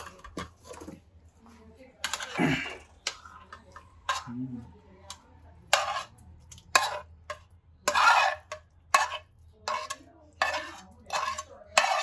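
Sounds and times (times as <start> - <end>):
metal spoon scraping a frying pan: 0.0 - 1.0, 2.0 - 4.4, 5.0 - 12.0.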